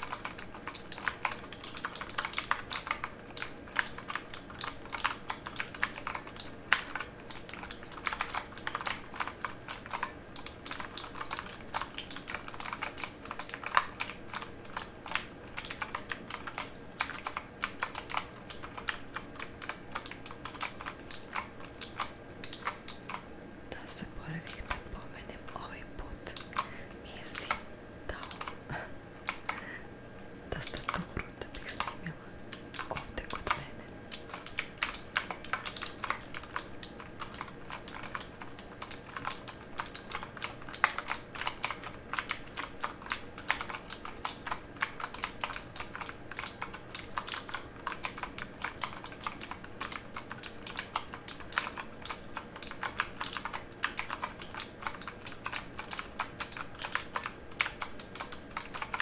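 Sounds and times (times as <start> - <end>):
mechanical keyboard typing: 0.0 - 23.2, 24.3 - 28.6, 29.2 - 29.7, 30.6 - 59.0.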